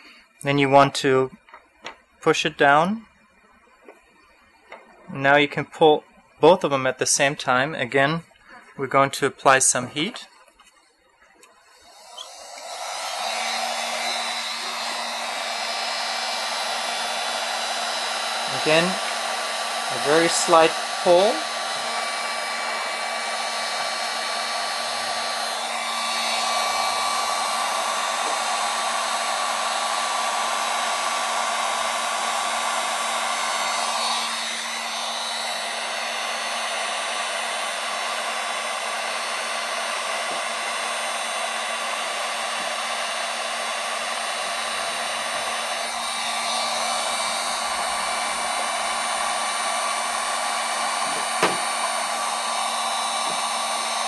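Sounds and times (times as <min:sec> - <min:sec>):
heat gun blowing: 0:00.0 - 0:01.9, 0:11.4 - 0:54.0.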